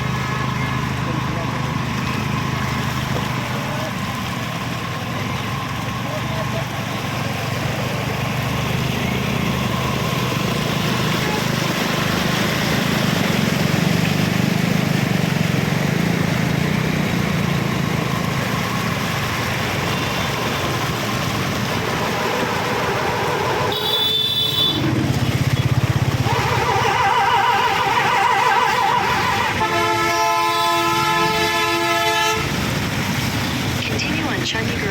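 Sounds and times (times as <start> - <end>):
road traffic engines: 0.0 - 34.9.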